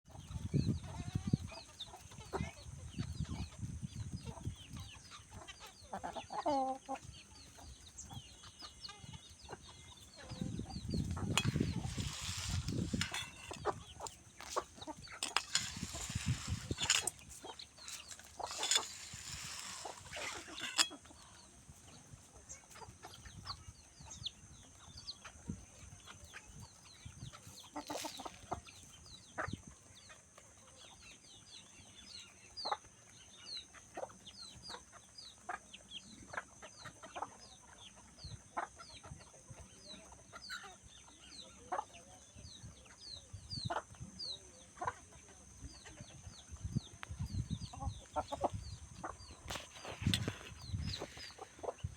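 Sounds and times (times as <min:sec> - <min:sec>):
chickens clucking: 0:00.1 - 0:51.9.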